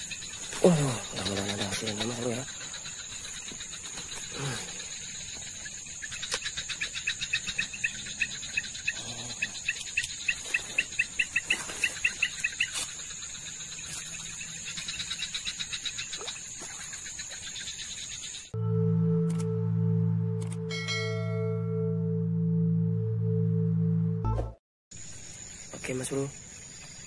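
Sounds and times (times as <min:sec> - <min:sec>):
crickets high-pitched drone: 0:00.0 - 0:24.1, 0:24.9 - 0:27.0.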